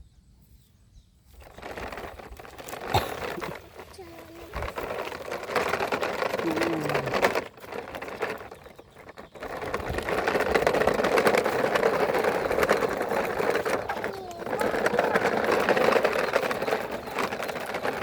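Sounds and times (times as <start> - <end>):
toy vehicle motor buzzing and clicking: 1.3 - 18.0.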